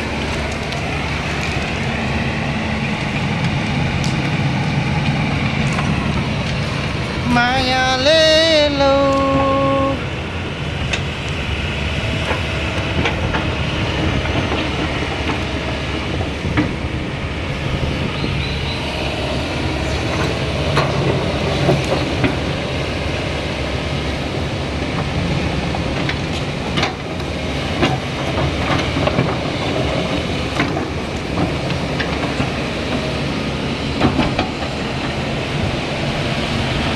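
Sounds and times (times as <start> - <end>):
diesel excavator engine running: 0.0 - 36.9.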